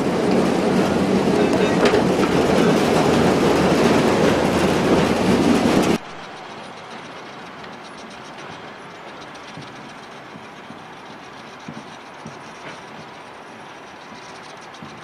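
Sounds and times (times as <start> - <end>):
faint steady rumble: 0.0 - 15.0
train wheels clattering on rail: 0.0 - 15.0.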